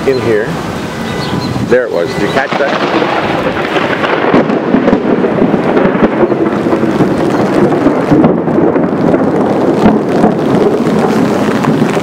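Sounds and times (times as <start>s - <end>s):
rain: 0.0s - 12.0s
thunder rumbling: 0.0s - 12.0s.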